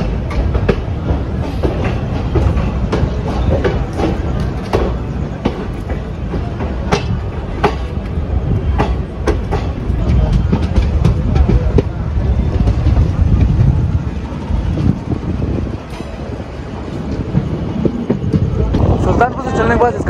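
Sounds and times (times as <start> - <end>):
wheels clicking over rail joints: 0.0 - 19.0
train rumble: 0.0 - 20.0.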